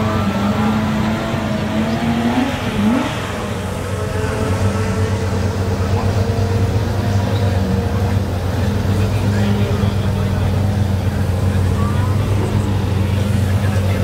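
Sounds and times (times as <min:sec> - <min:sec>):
race car engine idling: 0:00.0 - 0:14.0.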